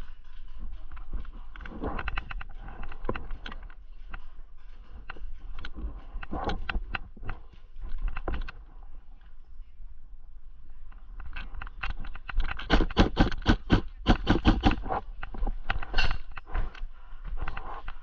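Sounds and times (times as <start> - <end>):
irregular clicks and knocks: 0.0 - 9.3, 10.9 - 18.0.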